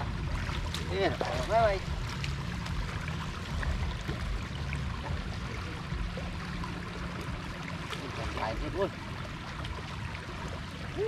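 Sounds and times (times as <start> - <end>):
floodwater rushing through net: 0.0 - 11.0
low rumble: 0.0 - 11.0.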